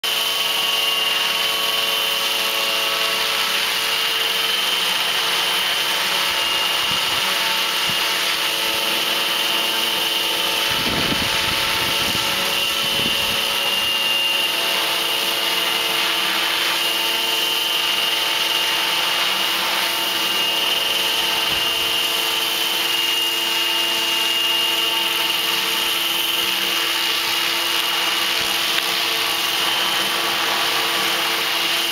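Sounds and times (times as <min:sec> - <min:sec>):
electric motor whine: 0:00.0 - 0:31.9
rotor blades rushing: 0:00.0 - 0:31.9.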